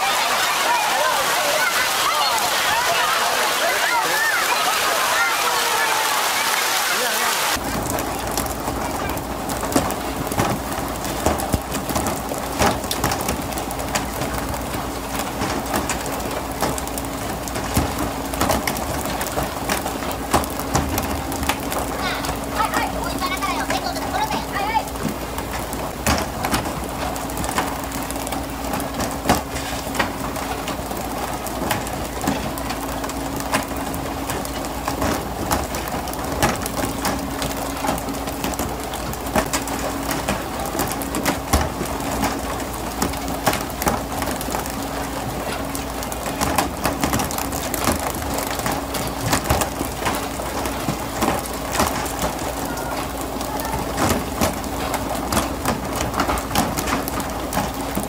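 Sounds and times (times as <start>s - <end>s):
faint engine hum: 0.0s - 58.0s
sea water rushing: 0.0s - 58.0s
fish slapping on deck: 7.1s - 58.0s.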